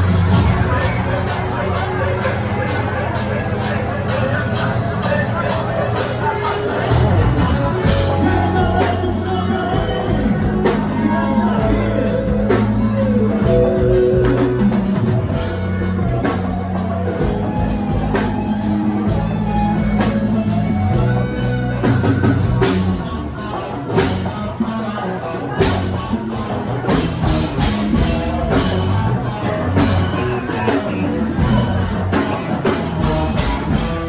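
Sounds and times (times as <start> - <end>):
bass notes: 0.0 - 34.0
drum kit beat: 0.0 - 34.0
person singing: 0.0 - 34.0.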